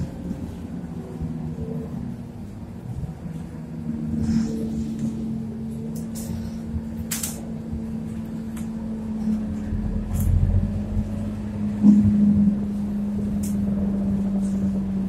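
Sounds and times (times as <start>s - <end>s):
bus diesel engine droning: 0.0s - 15.0s
low road rumble: 0.0s - 15.0s.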